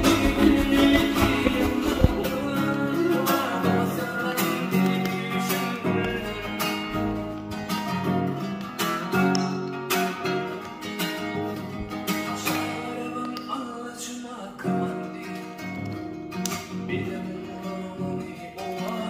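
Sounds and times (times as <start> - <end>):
plucked acoustic guitar music: 0.0 - 19.0.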